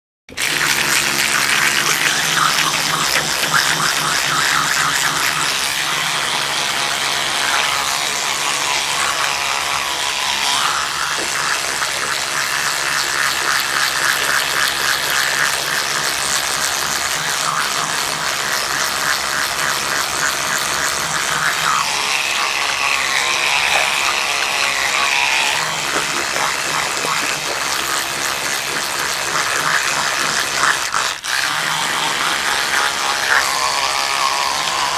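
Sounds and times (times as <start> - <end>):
electric toothbrush buzzing: 0.3 - 34.9.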